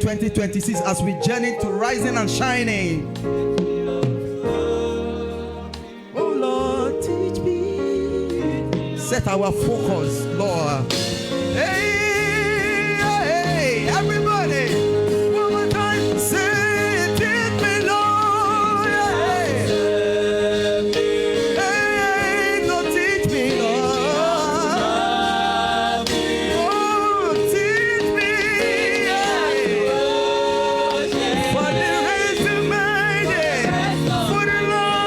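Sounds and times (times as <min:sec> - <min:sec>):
held accompaniment chords: 0:00.0 - 0:35.0
person singing with vibrato: 0:00.0 - 0:35.0.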